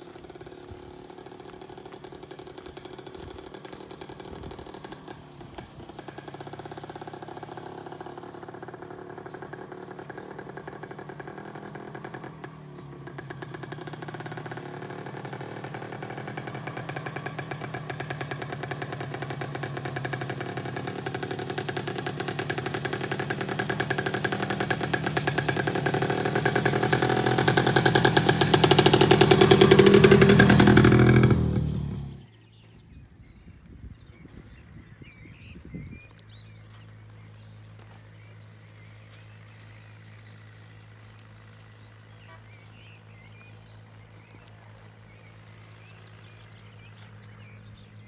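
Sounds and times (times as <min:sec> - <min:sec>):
vehicle engine pulsing: 0:00.0 - 0:48.0.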